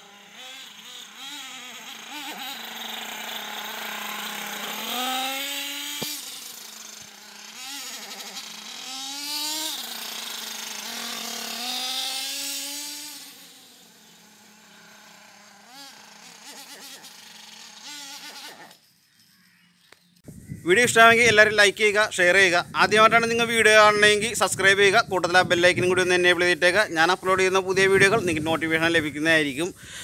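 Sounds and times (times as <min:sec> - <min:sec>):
small nitro engine revving: 0:00.0 - 0:20.2, 0:22.3 - 0:30.0.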